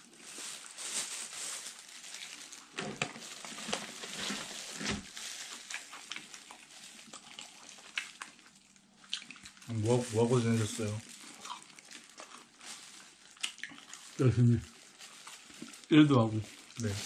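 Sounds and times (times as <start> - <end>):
crunching and chewing food: 0.0 - 17.0.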